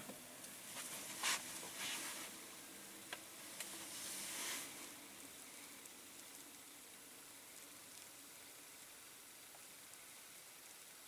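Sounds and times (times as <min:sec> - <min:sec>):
chemical bath fizzing faintly: 0:00.0 - 0:11.0.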